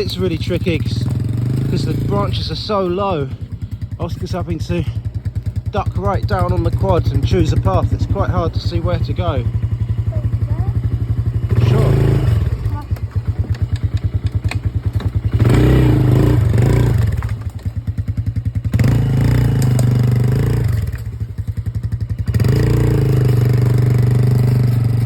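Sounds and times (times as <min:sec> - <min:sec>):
quad bike engine idling and revving: 0:00.0 - 0:25.0.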